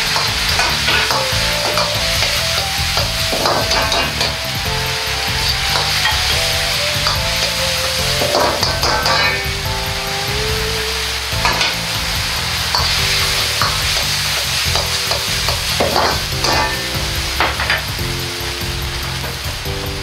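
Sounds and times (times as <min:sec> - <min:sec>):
metal ladle scraping a wok: 0:00.0 - 0:09.8, 0:11.0 - 0:17.9
food sizzling in a wok: 0:00.0 - 0:20.0.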